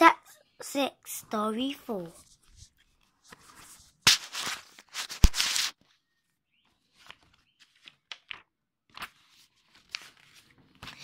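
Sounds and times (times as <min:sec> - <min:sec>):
book pages turning: 0:02.0 - 0:11.0
paper rustling: 0:02.0 - 0:11.0.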